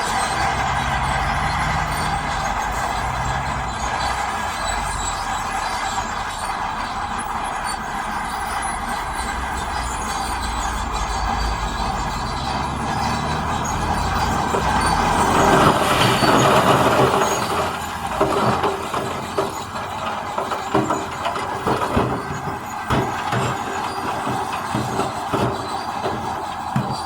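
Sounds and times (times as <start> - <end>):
metallic clanks and knocks: 0.0 - 6.3, 9.0 - 27.0
heavy diesel engine under load: 0.0 - 27.0.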